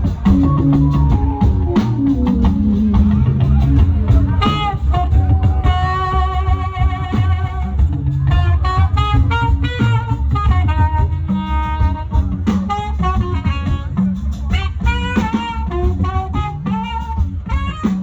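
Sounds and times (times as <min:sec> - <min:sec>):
live band playing afrobeats: 0:00.0 - 0:18.0.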